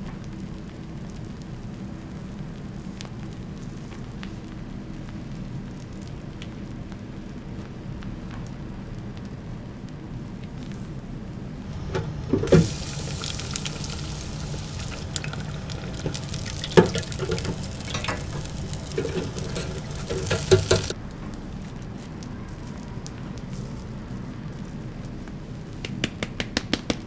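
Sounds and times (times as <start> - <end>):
food sizzling on a griddle: 0.0 - 11.0, 12.4 - 26.1.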